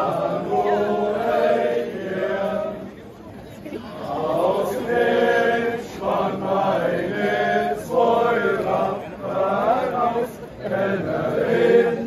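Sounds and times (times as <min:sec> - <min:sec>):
crowd singing in unison: 0:00.0 - 0:12.0.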